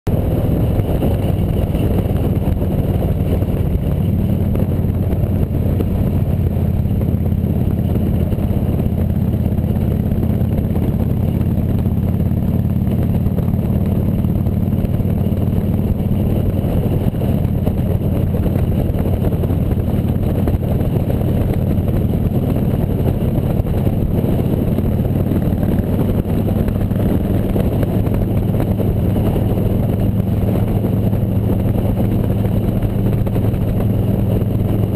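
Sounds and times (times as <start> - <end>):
motorcycle engine running: 0.0 - 34.9
constant rushing noise: 0.1 - 34.9.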